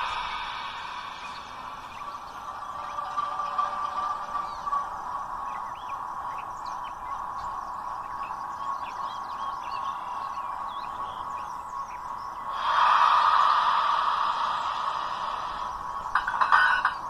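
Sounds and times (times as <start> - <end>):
small birds chirping: 0.0 - 17.0
steady mid-pitched hum: 0.0 - 17.0.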